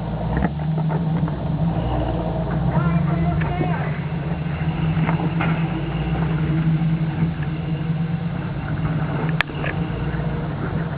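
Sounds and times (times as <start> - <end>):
engine running steadily: 0.0 - 10.9.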